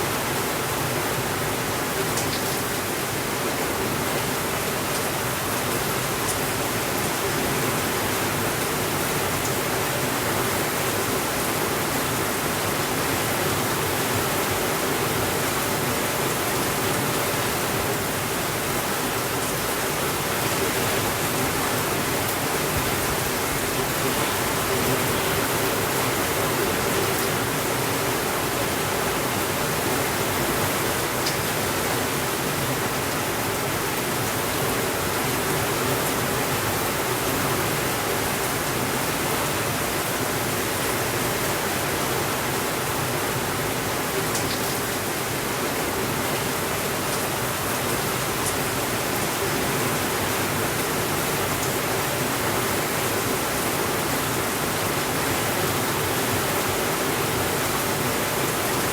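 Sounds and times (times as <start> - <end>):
rainfall hiss: 0.0 - 58.9.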